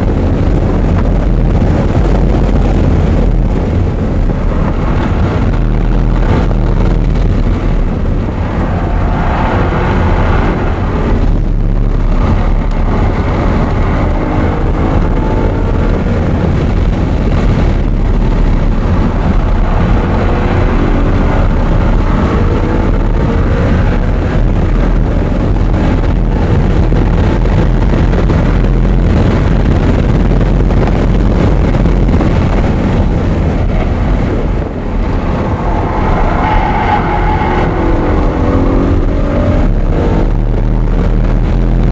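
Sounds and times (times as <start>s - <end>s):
car engine accelerating: 0.0s - 41.9s
road and wind noise: 0.0s - 41.9s.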